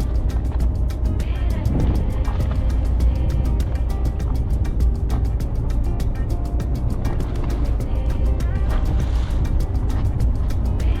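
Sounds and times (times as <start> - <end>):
fast beat music with heavy bass: 0.0 - 11.0.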